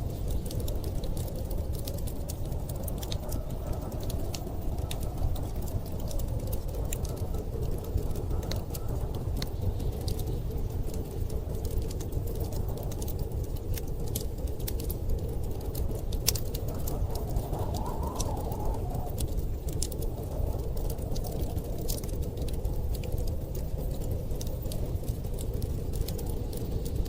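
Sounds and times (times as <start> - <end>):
wood fire crackling and popping: 0.0 - 27.0
storm wind rushing: 0.1 - 27.0.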